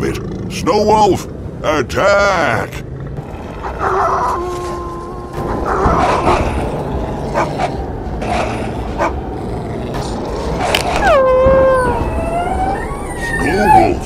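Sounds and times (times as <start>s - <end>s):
cartoon animals growling and snarling: 2.6s - 14.0s.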